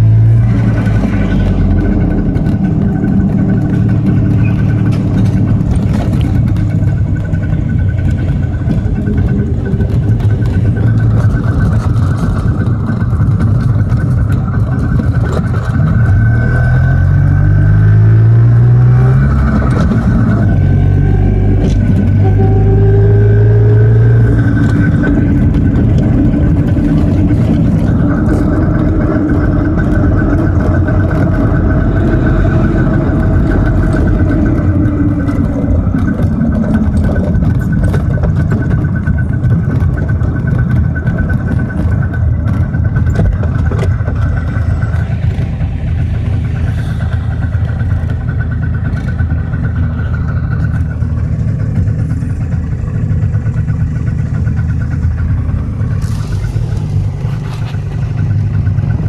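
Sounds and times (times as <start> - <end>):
road noise: 0.0 - 59.0
small two-stroke car engine: 0.0 - 59.0.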